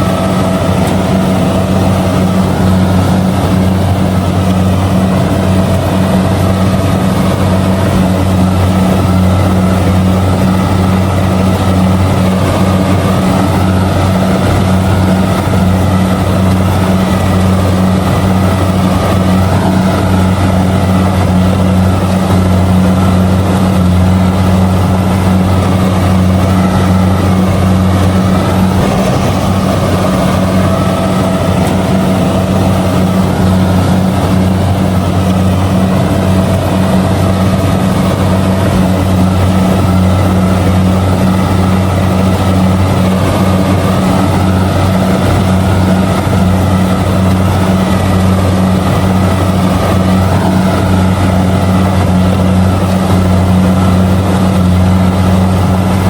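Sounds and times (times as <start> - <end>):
combine harvester engine hum: 0.0 - 56.0
machinery drone: 0.0 - 56.0.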